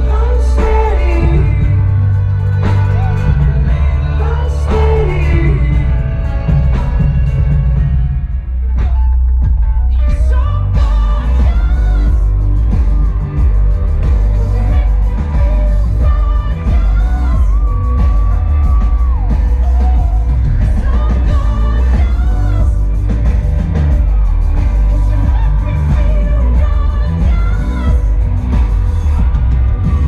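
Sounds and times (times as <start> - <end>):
lead singer singing: 0.0 - 7.8, 9.9 - 30.0
live band playing: 0.0 - 30.0.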